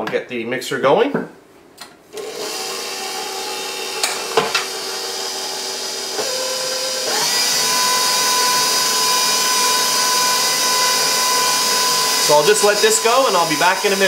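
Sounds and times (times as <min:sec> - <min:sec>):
stand mixer motor whine: 0:02.2 - 0:14.0.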